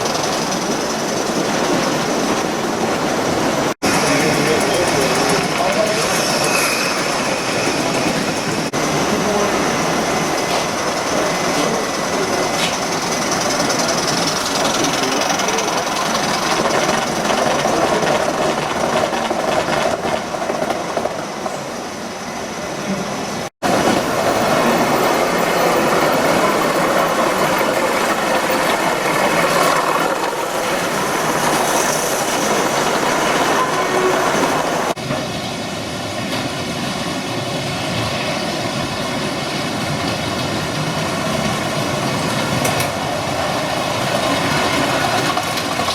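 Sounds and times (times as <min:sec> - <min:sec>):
model train running on track: 0:00.0 - 0:45.9.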